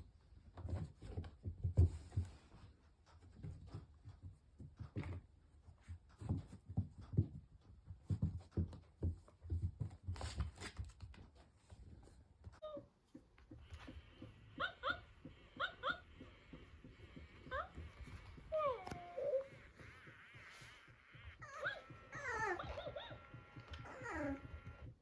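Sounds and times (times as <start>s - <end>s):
dog paws scrambling on floor: 0.4s - 25.0s.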